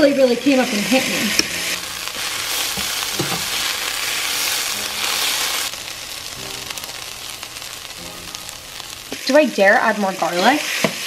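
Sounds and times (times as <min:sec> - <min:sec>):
chili sizzling in a pot: 0:00.0 - 0:11.0.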